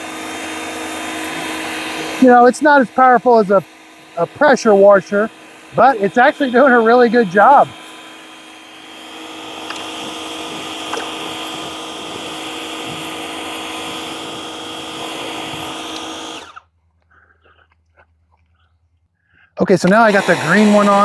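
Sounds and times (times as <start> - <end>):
water jet hissing: 0.0 - 16.6, 19.6 - 21.0
electric pump whine: 0.0 - 16.8, 19.6 - 21.0.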